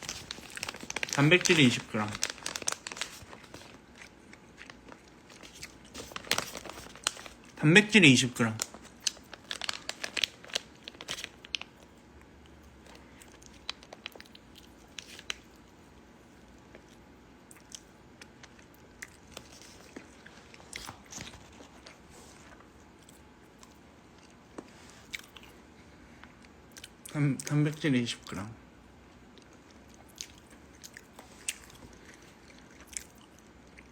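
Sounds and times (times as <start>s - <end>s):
chewing crunchy snack: 0.0s - 7.6s, 8.6s - 15.8s, 16.4s - 25.6s, 29.3s - 33.9s.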